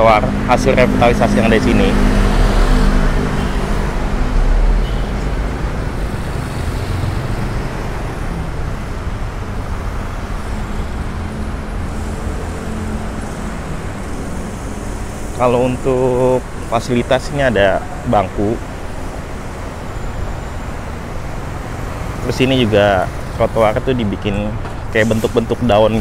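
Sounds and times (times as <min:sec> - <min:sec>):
passing cars and motorbikes: 0:00.0 - 0:26.0.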